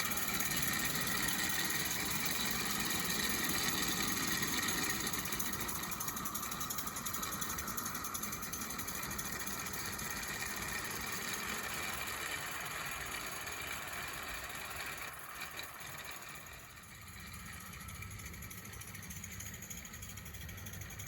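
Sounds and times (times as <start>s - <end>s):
model steam locomotive chuffing: 0.0s - 21.0s.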